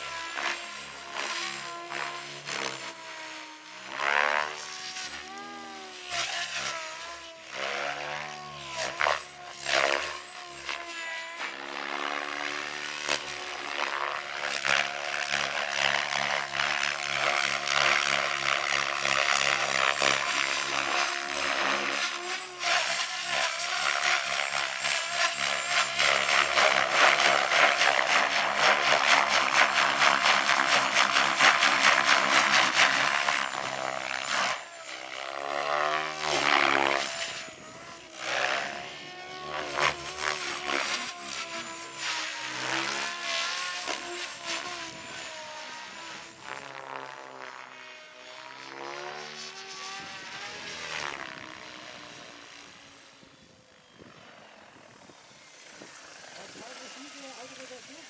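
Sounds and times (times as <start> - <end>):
rotor chopping: 0.0 - 47.6
rc helicopter motor whine: 0.0 - 58.0.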